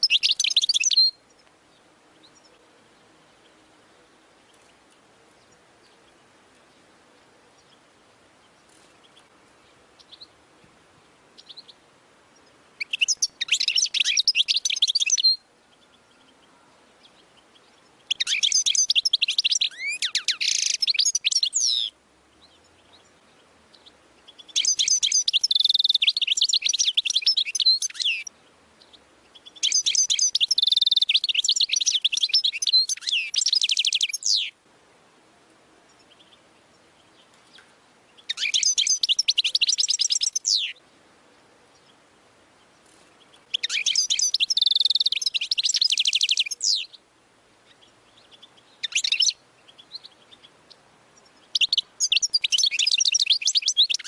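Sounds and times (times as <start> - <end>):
goldfinch twittering song: 0.0 - 2.6, 4.4 - 10.4, 11.4 - 34.6, 35.9 - 40.8, 42.6 - 54.0
faint bird chirps: 0.0 - 10.5, 11.2 - 34.6, 35.6 - 54.0.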